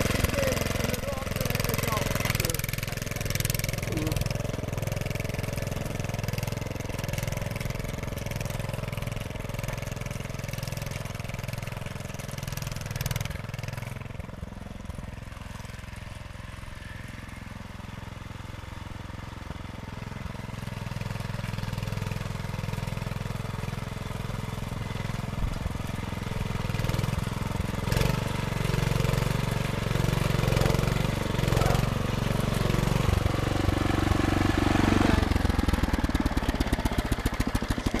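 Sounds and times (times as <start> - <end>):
rotavator engine running: 0.0 - 38.0.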